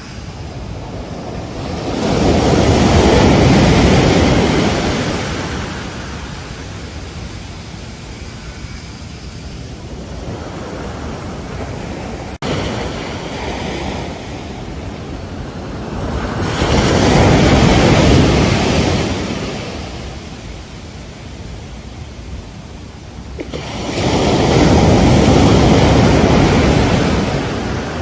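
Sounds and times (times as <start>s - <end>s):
surf washing on a beach: 0.0s - 28.0s.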